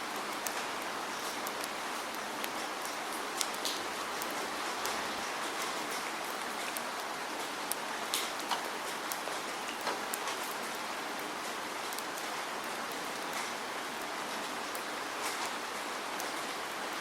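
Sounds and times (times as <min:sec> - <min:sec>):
raindrops ticking: 0:00.0 - 0:16.7
hiss of steady rain: 0:00.0 - 0:17.0.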